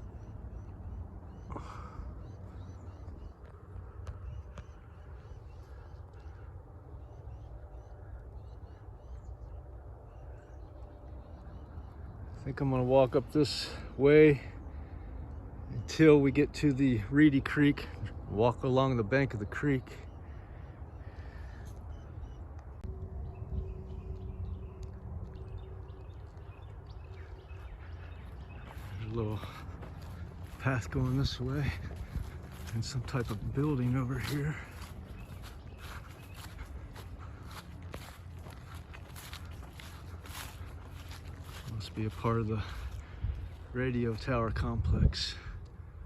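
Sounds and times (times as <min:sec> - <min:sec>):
footsteps crunching outdoors: 0:00.0 - 0:46.0
small birds chirping: 0:00.0 - 0:46.0
steady low rumble: 0:00.0 - 0:46.0.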